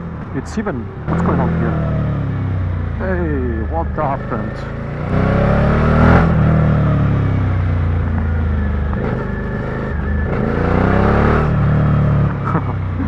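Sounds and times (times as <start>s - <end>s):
motorcycle engine while riding: 0.0s - 13.0s.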